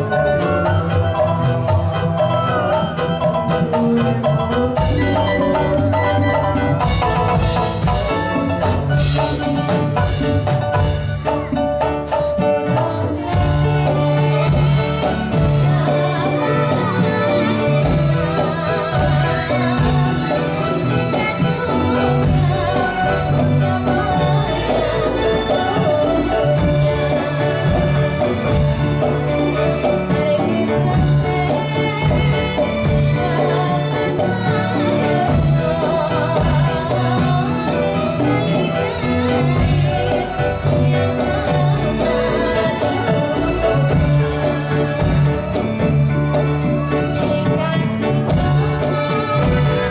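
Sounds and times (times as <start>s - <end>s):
drumming: 0.0s - 49.9s
jingling percussion: 0.0s - 49.9s
person singing: 0.0s - 49.9s
sustained melody: 0.0s - 49.9s.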